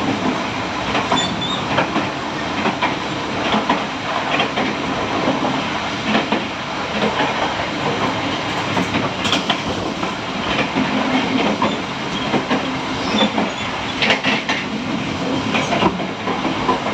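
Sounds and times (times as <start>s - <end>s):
clicks of train wheels: 0.0s - 16.9s
train wheels on rails: 0.0s - 16.9s.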